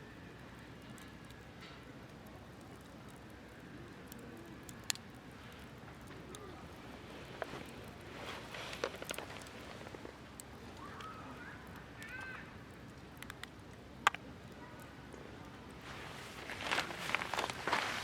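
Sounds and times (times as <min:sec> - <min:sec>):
campfire crackling: 0:00.0 - 0:18.0
fire popping: 0:00.3 - 0:18.0.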